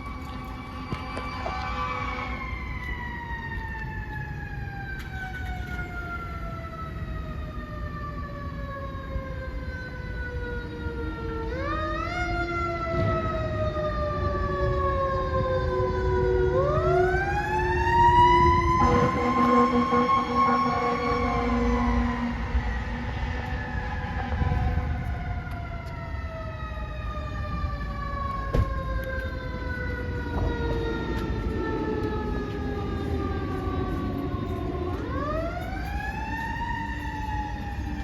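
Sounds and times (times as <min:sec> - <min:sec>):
fire engine siren wailing: 0:00.0 - 0:38.0.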